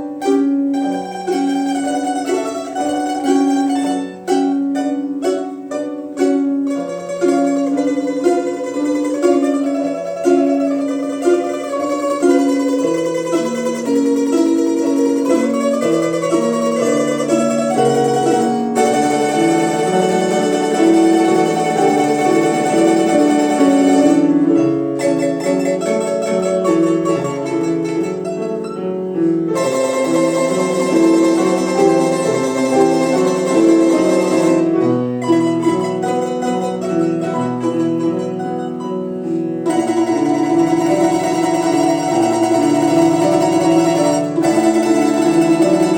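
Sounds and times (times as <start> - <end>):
plucked string ensemble: 0.0 - 45.9.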